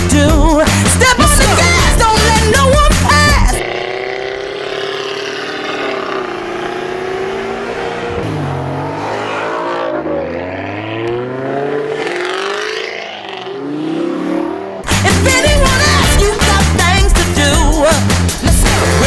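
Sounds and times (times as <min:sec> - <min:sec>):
sports car engine accelerating: 0:01.2 - 0:17.9.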